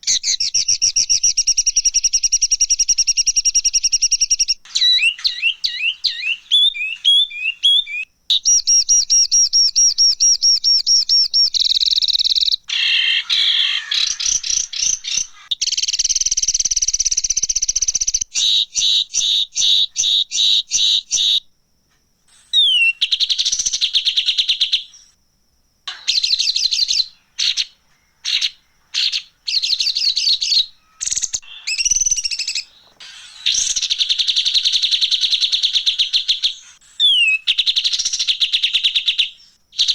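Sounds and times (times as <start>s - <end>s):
bird chattering calls and trills: 0.0s - 21.4s, 25.9s - 39.9s.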